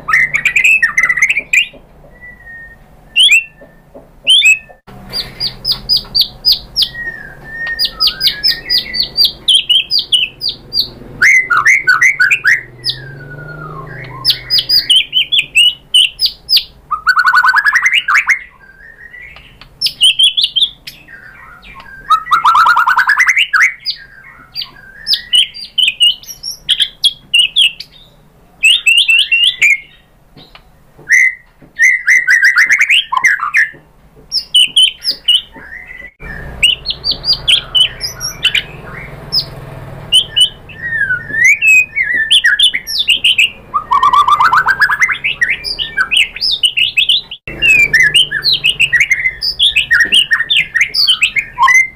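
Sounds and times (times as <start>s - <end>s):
songbird singing varied phrases: 0.0s - 51.9s.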